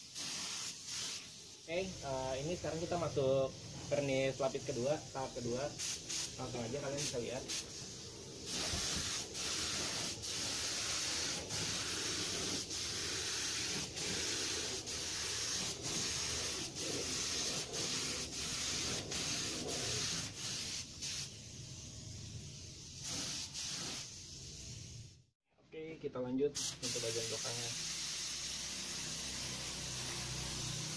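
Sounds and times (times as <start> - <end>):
spray gun hissing: 0.0 - 25.2, 26.6 - 30.9.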